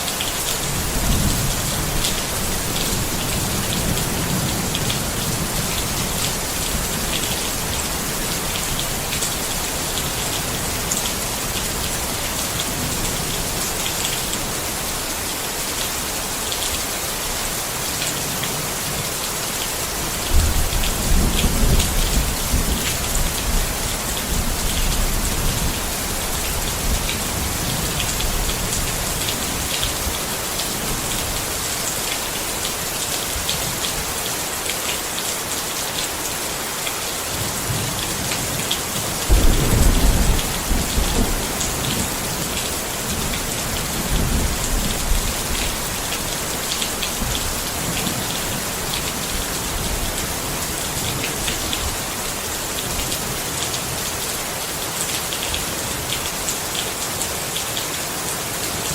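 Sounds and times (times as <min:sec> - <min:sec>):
rain pattering on a tent: 0:00.0 - 0:58.9.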